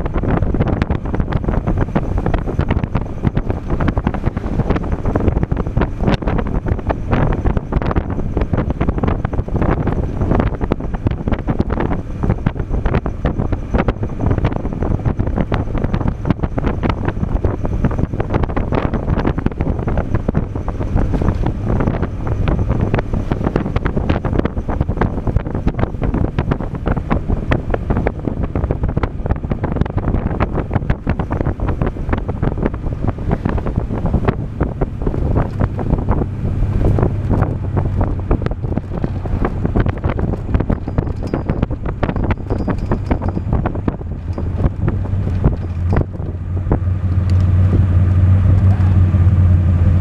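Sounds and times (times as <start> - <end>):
car engine: 0.0 - 50.0
road noise: 0.0 - 50.0
wind buffeting microphone: 0.0 - 50.0.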